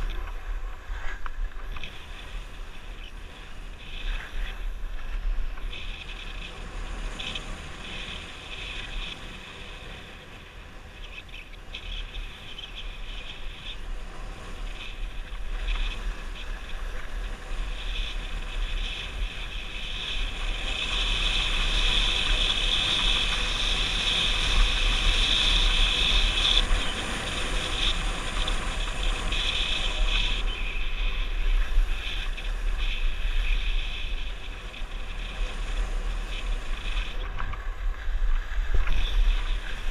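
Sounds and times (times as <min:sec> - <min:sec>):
skis scraping over snow: 0:00.0 - 0:39.9
wind buffeting microphone: 0:00.0 - 0:39.9.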